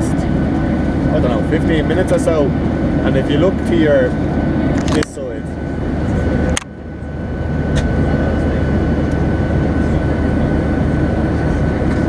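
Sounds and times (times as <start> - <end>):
vehicle engine drone in cabin: 0.0 - 12.0.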